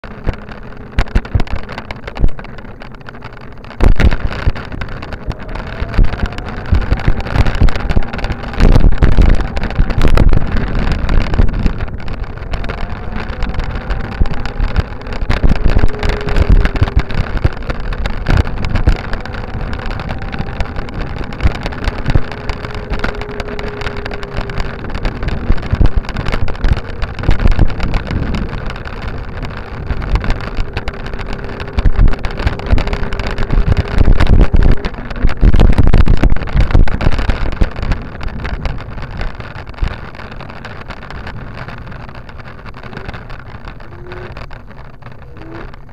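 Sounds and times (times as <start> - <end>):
steady rolling rumble: 0.0 - 45.9
wind buffeting microphone: 0.0 - 45.9.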